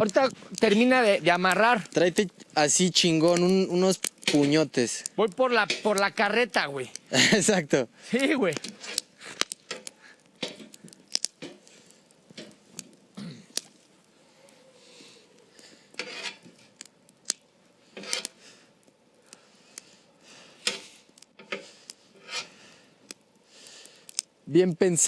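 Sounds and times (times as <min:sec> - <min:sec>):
sticks rustling: 0:00.0 - 0:24.4
campfire crackling and snapping: 0:00.0 - 0:25.0.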